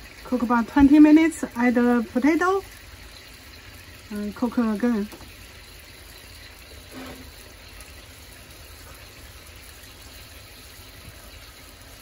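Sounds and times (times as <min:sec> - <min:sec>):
meat simmering in a wok: 0:00.0 - 0:12.0.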